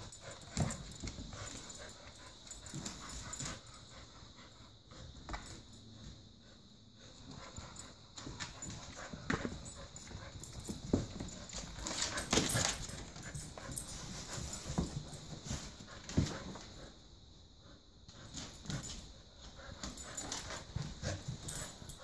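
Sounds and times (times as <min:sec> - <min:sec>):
dog play noises: 0:00.0 - 0:22.0.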